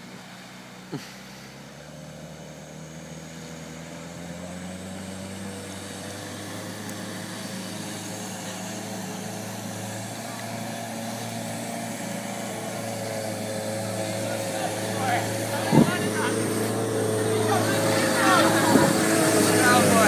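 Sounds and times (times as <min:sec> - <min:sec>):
vehicle engine running: 0:00.0 - 0:20.0
vehicle wading through water: 0:00.0 - 0:20.0.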